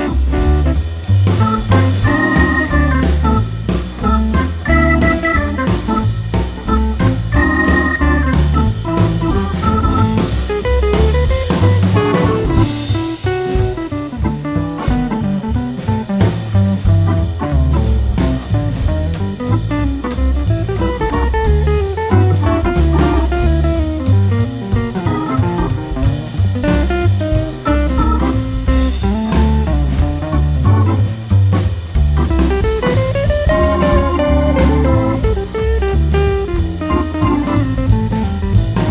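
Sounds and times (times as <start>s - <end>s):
guitar-led tune with bass and drums: 0.0s - 38.9s.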